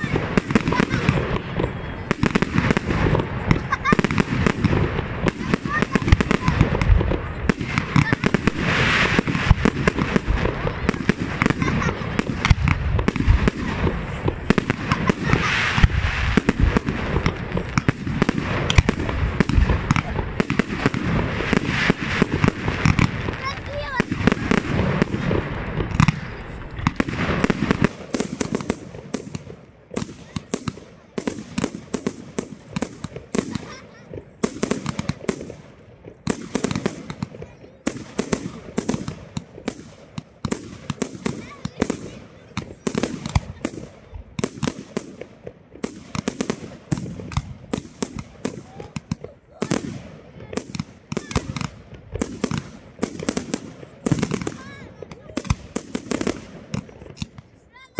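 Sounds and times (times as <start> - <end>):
fireworks launching and bursting: 0.0 - 57.9.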